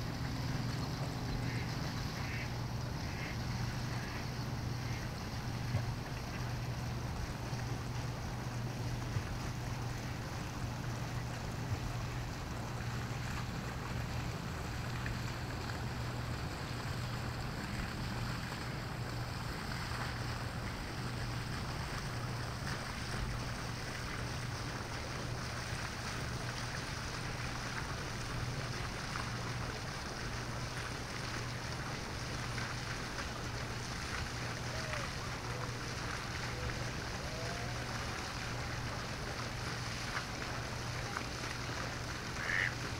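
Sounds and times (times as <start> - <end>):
constant low hum: 0.0 - 42.9
lapping water: 0.0 - 42.9
wind: 0.0 - 42.9.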